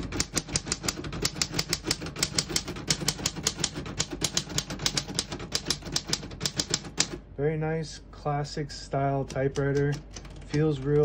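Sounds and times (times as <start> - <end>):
manual typewriter typing: 0.0 - 7.2, 9.1 - 11.0.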